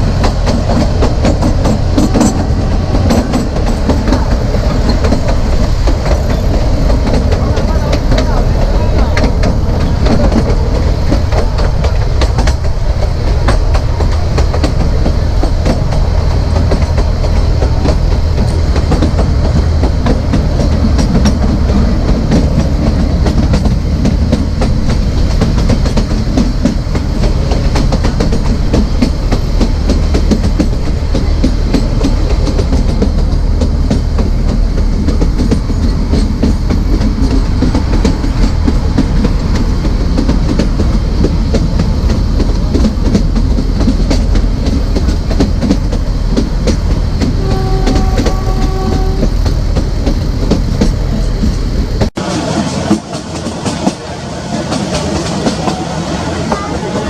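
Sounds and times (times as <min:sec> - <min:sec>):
train coach rumble: 0:00.0 - 0:57.0
wheels clattering over rail joints: 0:00.0 - 0:57.0.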